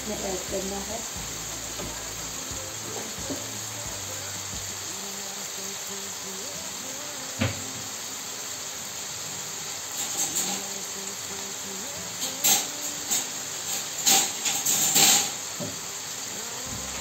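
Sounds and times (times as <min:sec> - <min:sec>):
faint music: 0:00.0 - 0:17.0
food sizzling in a frying pan: 0:00.0 - 0:17.0.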